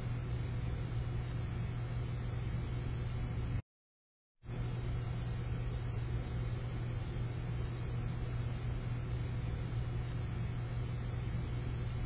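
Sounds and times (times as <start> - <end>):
steady mechanical hum: 0.0 - 3.6, 4.4 - 12.0.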